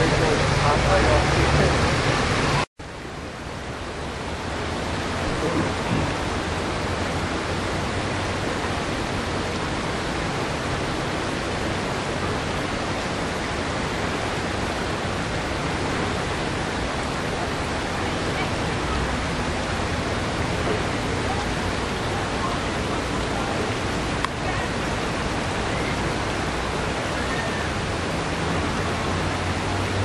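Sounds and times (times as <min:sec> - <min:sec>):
water rushing through rapids: 0:00.0 - 0:30.0.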